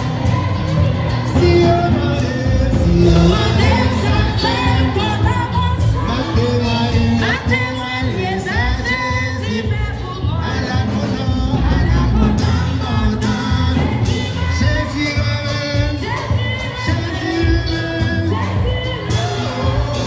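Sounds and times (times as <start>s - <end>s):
hymn singing: 0.0s - 20.0s.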